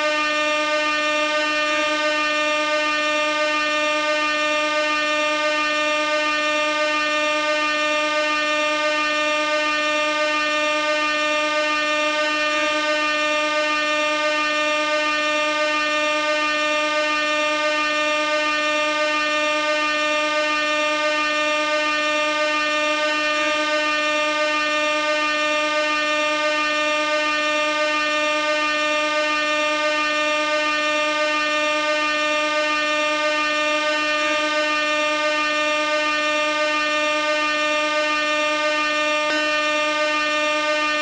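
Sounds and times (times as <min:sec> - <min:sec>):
air horn blast: 0:00.0 - 0:41.0.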